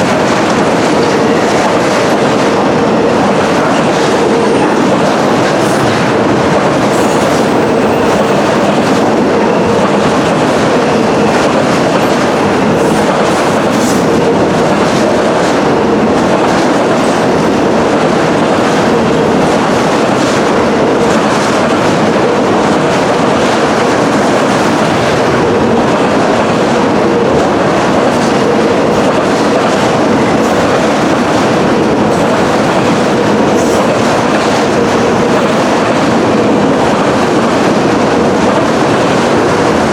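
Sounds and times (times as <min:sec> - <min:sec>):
freight train cars rumbling: 0:00.0 - 0:39.9.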